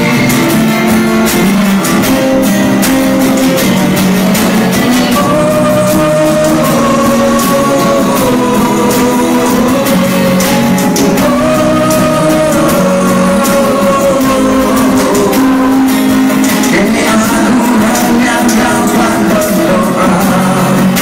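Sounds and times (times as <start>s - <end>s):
song with singing and guitar: 0.0s - 21.0s.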